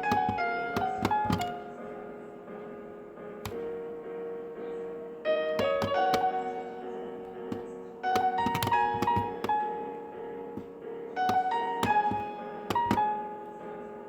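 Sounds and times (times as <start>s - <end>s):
slow piano: 0.0s - 14.0s.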